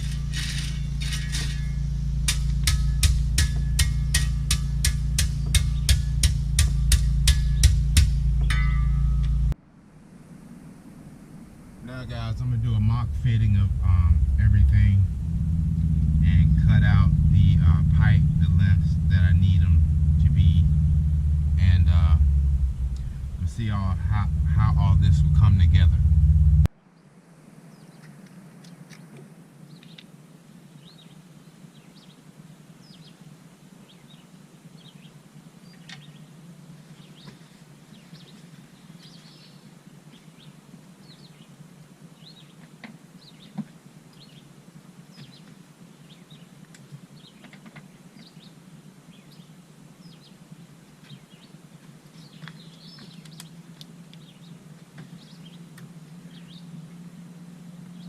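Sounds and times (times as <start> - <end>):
low steady hum: 0.0 - 58.0
songbirds chirping: 0.0 - 58.0.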